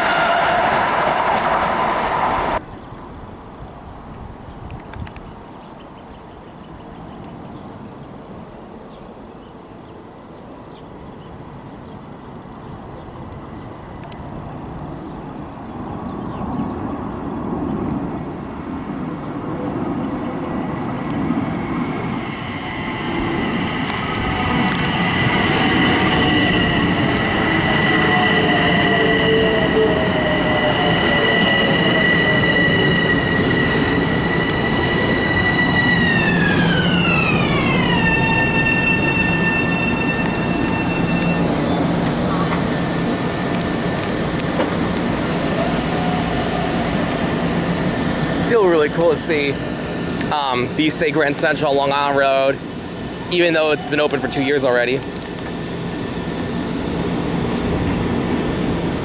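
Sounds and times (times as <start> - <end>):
train wheels rumbling on rails: 0.0 - 2.7, 13.2 - 59.0
high whine of train: 0.0 - 59.0.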